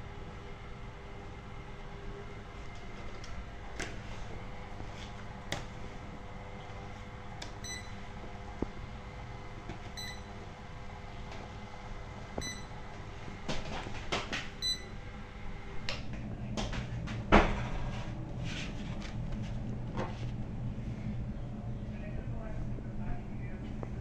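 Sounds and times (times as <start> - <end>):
conveyor belt humming: 0.0 - 24.0.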